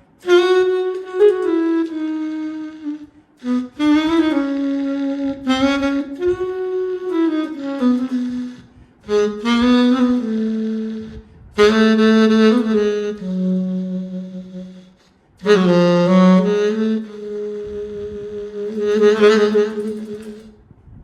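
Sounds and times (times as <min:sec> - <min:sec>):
sampled saxophone phrases: 0:00.0 - 0:20.6.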